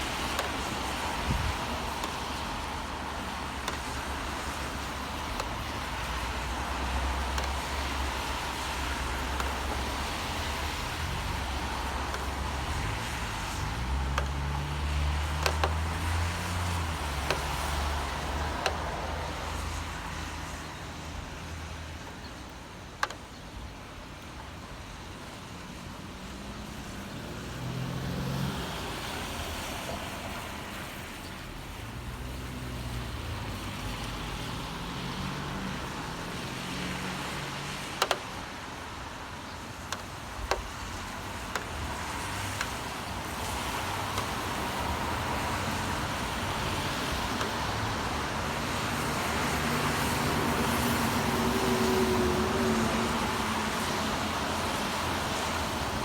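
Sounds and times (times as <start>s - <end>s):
tyres hissing on wet road: 0.0s - 22.1s, 24.8s - 56.0s
rain: 0.0s - 56.0s.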